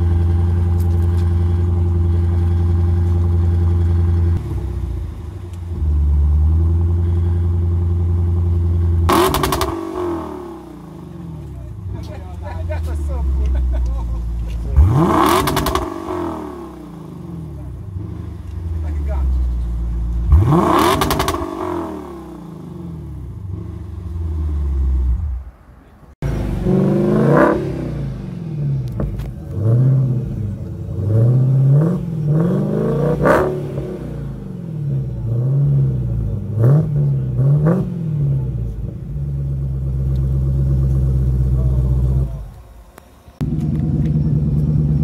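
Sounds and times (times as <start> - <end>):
car engine revving and idling: 0.0 - 45.0.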